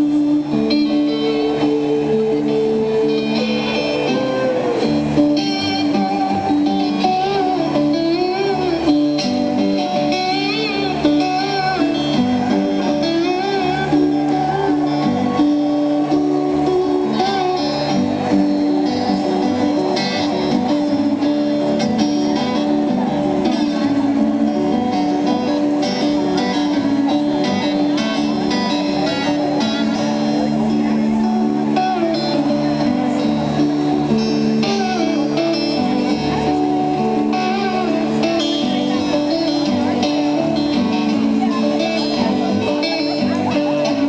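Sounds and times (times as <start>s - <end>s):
live band music led by guitar: 0.0s - 44.0s.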